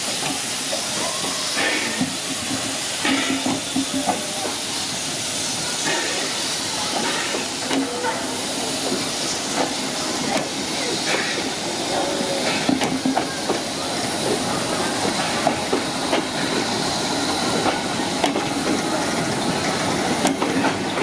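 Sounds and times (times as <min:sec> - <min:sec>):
steam hissing: 0:00.0 - 0:21.0.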